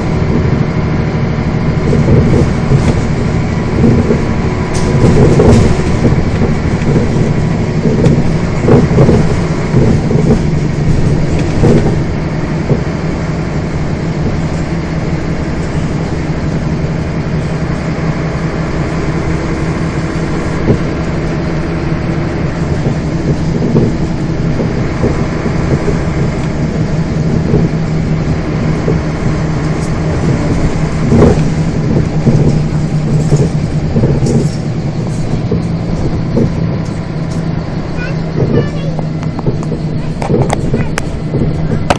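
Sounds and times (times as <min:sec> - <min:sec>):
bus body rattling and knocking: 0:00.0 - 0:41.9
bus engine drone: 0:00.0 - 0:41.9.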